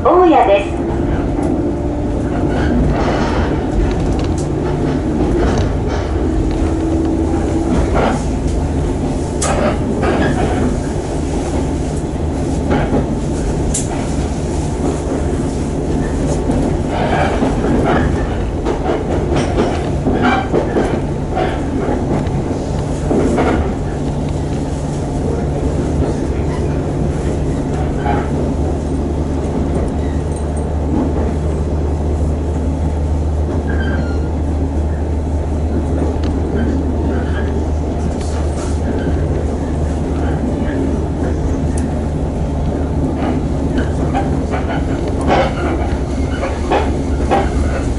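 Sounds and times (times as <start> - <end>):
train rumble inside carriage: 0.0 - 47.9
train wheels clicking: 1.2 - 31.8, 35.7 - 47.9.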